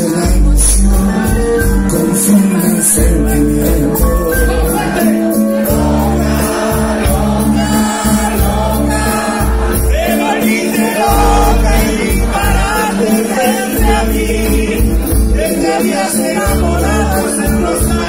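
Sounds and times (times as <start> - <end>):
live cumbia band playing: 0.0 - 18.0
person singing: 0.0 - 18.0.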